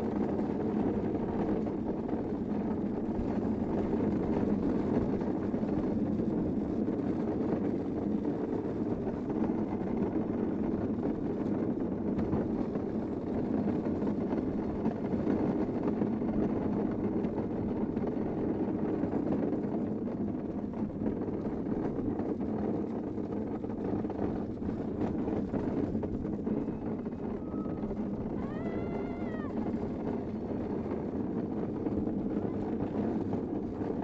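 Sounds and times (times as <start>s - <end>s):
wheels rumbling on tarmac: 0.0s - 34.0s
wind on microphone: 0.0s - 34.0s.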